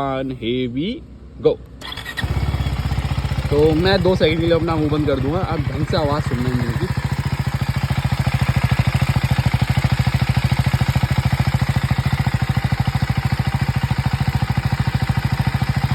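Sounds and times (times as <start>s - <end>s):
motorcycle engine idling: 1.8s - 15.9s.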